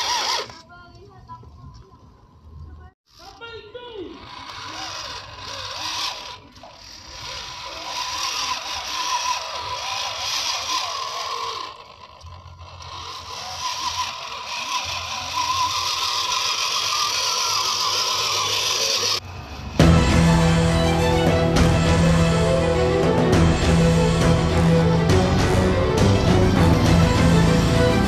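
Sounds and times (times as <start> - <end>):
toy car drivetrain whining: 0.0 - 0.7, 3.0 - 28.0.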